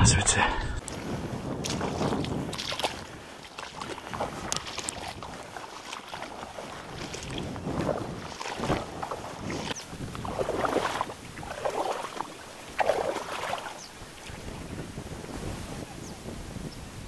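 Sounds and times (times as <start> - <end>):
water swishing: 0.8 - 15.9.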